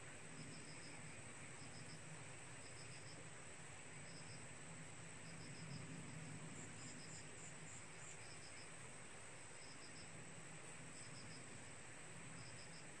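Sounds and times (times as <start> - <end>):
crickets chirping: 0.0 - 13.0
low steady hum: 0.0 - 13.0.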